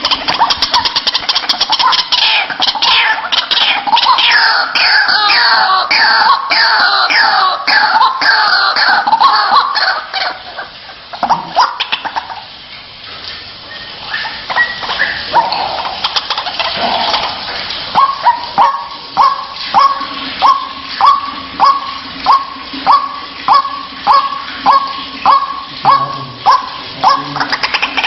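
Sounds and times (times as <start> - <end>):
waterhen chattering: 0.0 - 28.0
waterhen croaking calls: 0.0 - 28.0.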